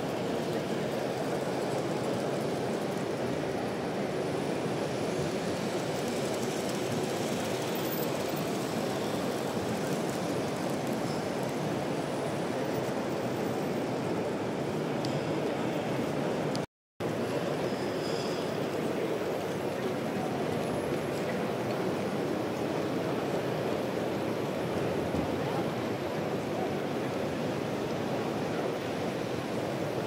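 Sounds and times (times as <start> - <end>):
model trains running: 0.0 - 30.0.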